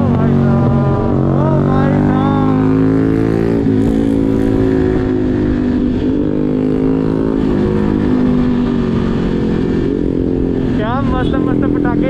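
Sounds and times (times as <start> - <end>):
motorcycle engine running: 0.0 - 12.0
road rumble: 0.0 - 12.0.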